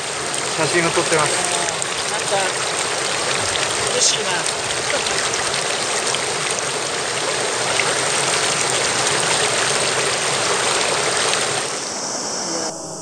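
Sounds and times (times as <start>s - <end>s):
stream flowing over stones: 0.0s - 12.0s.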